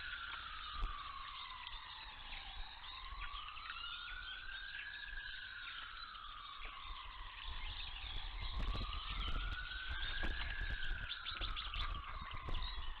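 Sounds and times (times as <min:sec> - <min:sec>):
distant siren wailing: 0:00.0 - 0:13.0
small birds chirping: 0:00.0 - 0:13.0.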